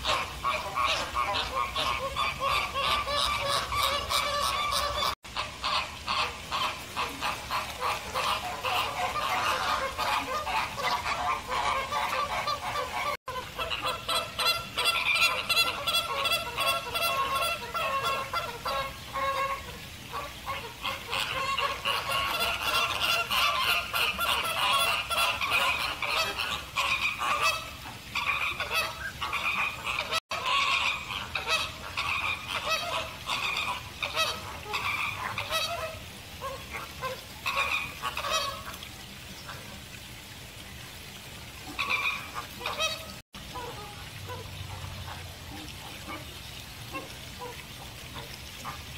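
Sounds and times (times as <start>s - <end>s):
flamingos honking: 0.0s - 40.4s, 41.2s - 48.9s.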